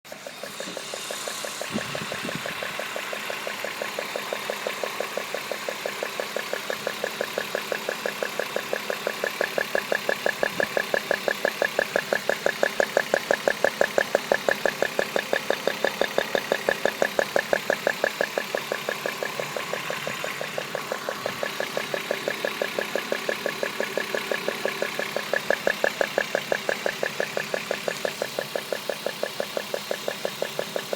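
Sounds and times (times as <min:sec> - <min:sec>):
car engine idling with ticking: 0:00.0 - 0:30.9.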